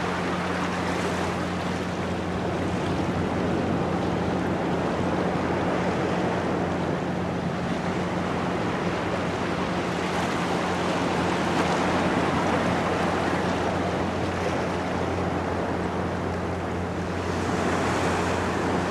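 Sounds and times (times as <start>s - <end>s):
ocean surf breaking: 0.0s - 18.9s.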